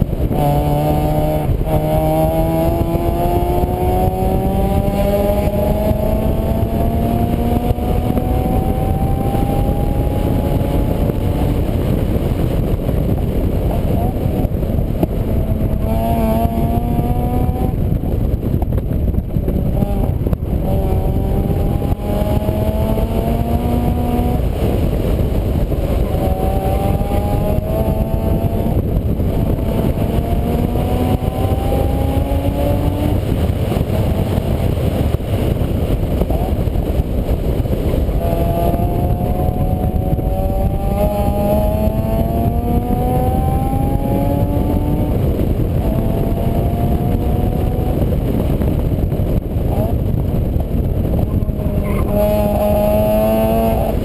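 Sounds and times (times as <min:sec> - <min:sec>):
road and wind noise: 0:00.0 - 0:54.0
vehicle engine accelerating: 0:00.0 - 0:54.0.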